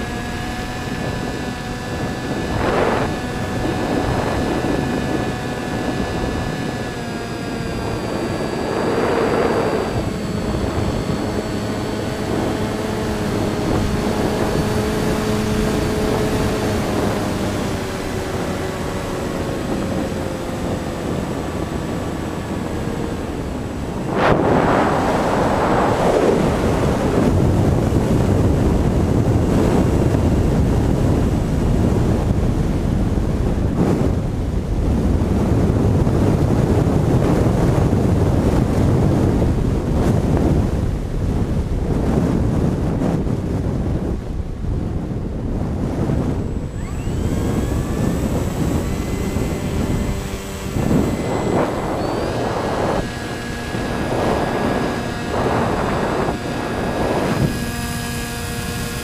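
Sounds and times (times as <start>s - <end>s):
model plane motors whining: 0.0s - 59.0s
wind rush on microphone: 0.0s - 59.0s.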